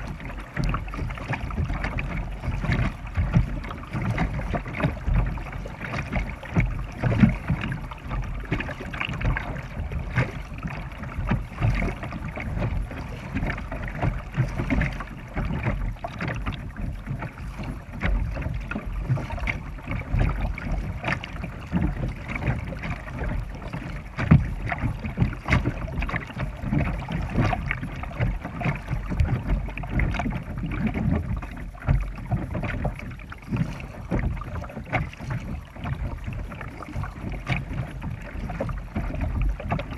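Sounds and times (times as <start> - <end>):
paddle dipping into water: 0.0 - 39.9
water splashing: 0.0 - 39.9
water washing along hull: 0.0 - 39.9.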